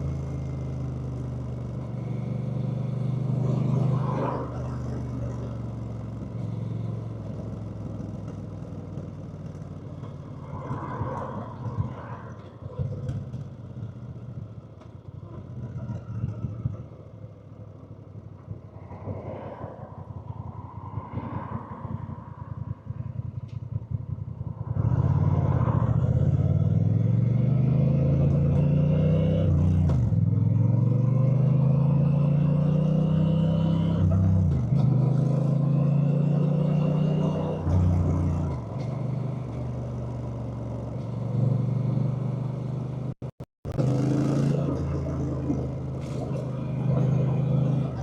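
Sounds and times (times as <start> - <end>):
motorcycle engine accelerating: 0.0 - 18.7, 20.0 - 48.0.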